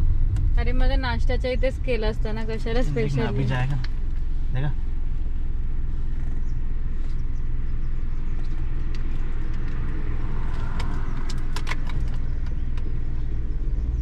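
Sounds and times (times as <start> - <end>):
car road and engine rumble: 0.0 - 14.0
wind through open window: 0.0 - 14.0.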